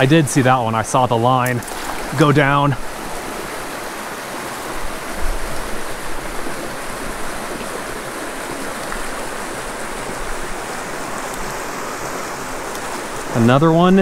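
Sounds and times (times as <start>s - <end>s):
creek running over rocks: 0.0s - 14.0s.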